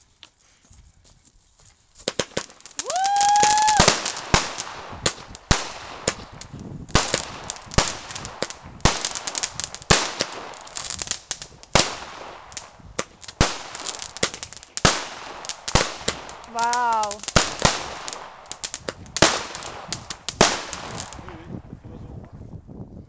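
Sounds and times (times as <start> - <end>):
fireworks crackling: 2.0 - 21.8
firecrackers banging: 2.1 - 21.5.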